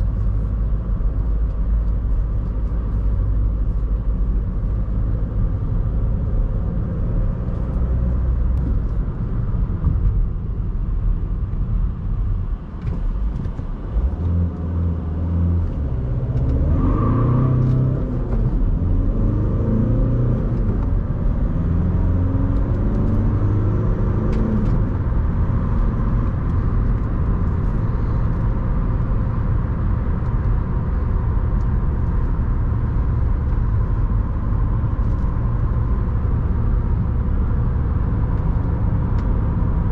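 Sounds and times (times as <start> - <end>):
diesel car engine accelerating: 0.0 - 39.9.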